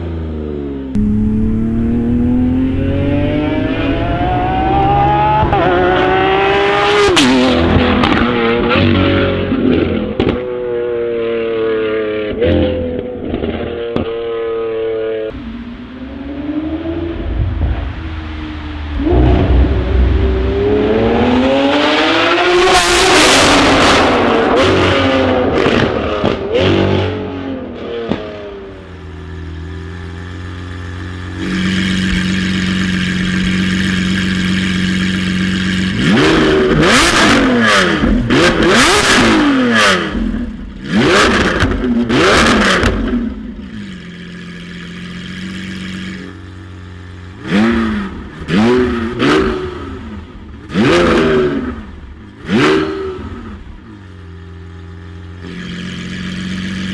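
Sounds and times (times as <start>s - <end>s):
car engine revving: 1.0s - 11.1s, 15.3s - 54.1s.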